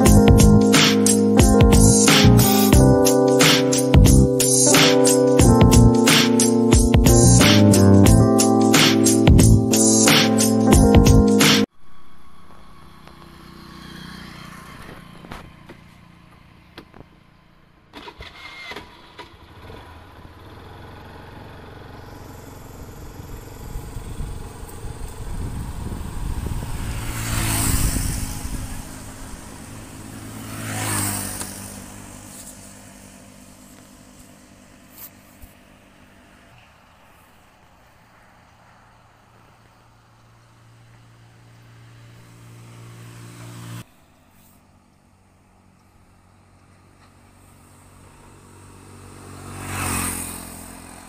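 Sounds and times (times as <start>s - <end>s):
vehicles passing close by: 0.0s - 51.0s.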